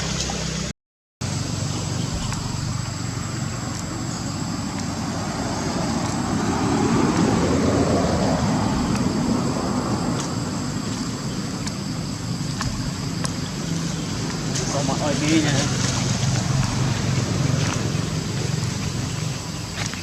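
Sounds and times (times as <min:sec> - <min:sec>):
road traffic rumble: 0:00.0 - 0:20.0
vehicle passing: 0:01.3 - 0:11.6, 0:12.6 - 0:19.8.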